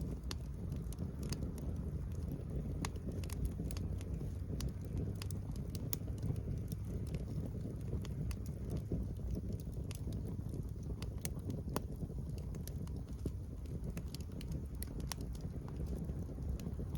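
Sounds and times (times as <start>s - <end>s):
low steady rumble: 0.0s - 16.9s
sharp pops from fire: 0.0s - 16.9s
wood fire crackling: 0.0s - 16.9s.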